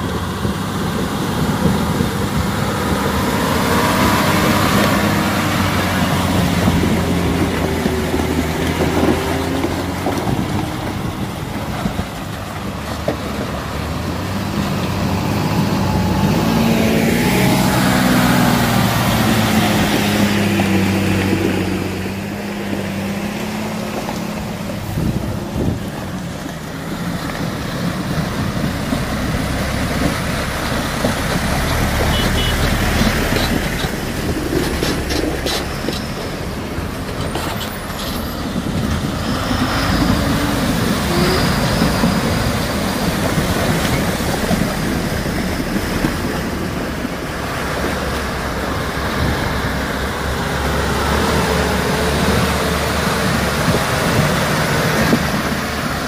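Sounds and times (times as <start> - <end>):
heavy trucks rumbling through mud: 0.0 - 56.0
steady engine drone: 0.0 - 56.0.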